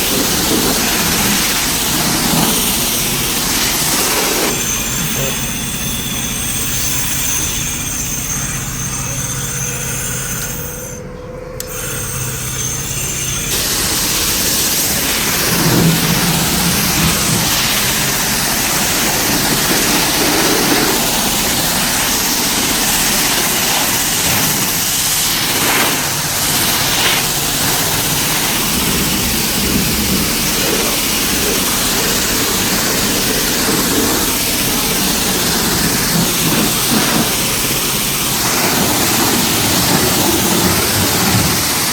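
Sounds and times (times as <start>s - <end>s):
high-pressure water spray hiss: 0.0s - 10.7s, 11.7s - 41.9s
pump running: 0.0s - 41.9s.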